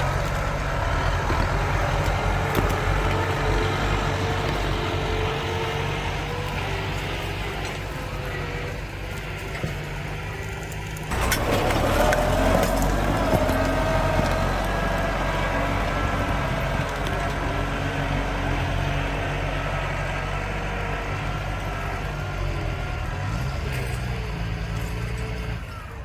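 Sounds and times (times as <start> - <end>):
tractor engine rumbling: 0.0 - 26.0.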